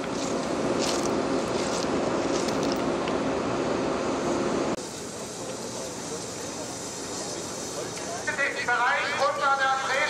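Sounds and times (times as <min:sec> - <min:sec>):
locomotive humming: 0:00.0 - 0:10.0.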